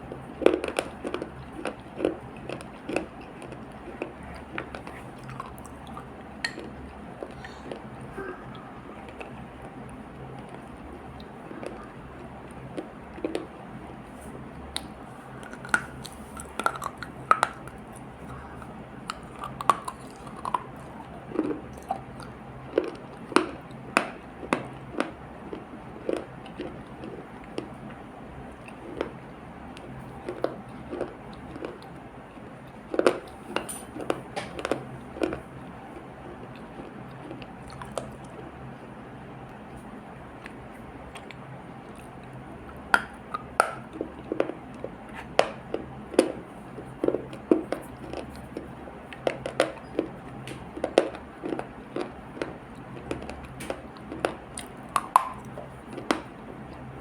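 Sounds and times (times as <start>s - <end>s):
chewing clay paste: 0.0s - 38.6s, 39.5s - 57.0s.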